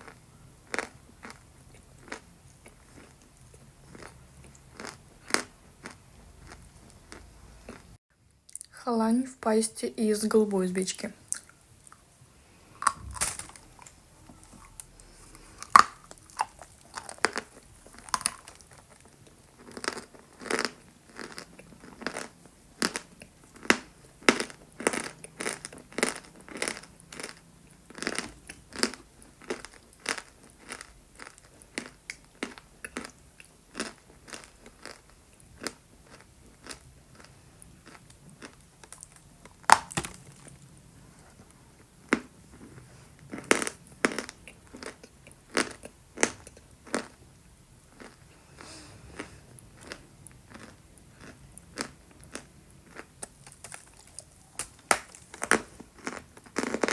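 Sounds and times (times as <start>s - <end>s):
chewing crunchy chalk paste: 0.0s - 8.7s, 12.8s - 40.6s, 41.2s - 47.2s, 47.9s - 56.9s.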